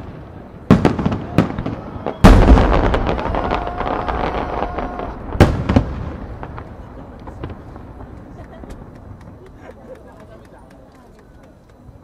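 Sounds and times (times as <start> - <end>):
firework crackles: 0.0 - 12.0.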